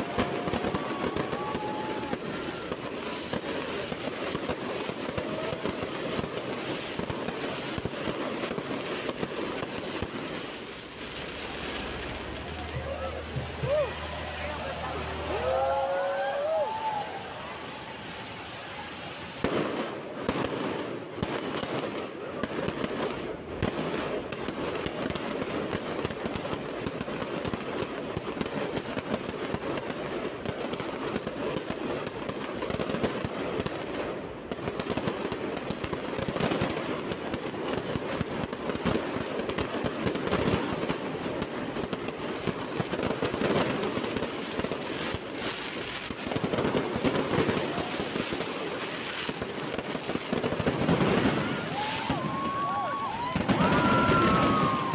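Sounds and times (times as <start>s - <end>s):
fireworks and firecrackers banging: 0.0s - 54.9s.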